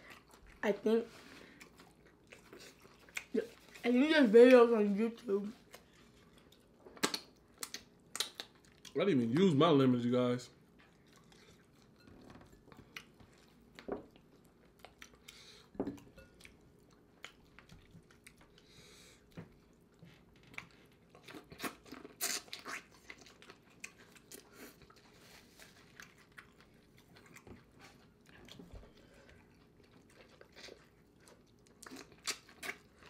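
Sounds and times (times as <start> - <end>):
person chewing food: 0.0 - 0.6, 1.2 - 3.8, 5.6 - 9.0, 10.6 - 33.0.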